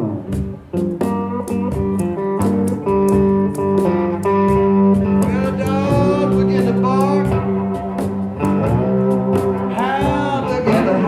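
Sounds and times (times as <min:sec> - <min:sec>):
slide blues electric guitar: 0:00.0 - 0:11.0.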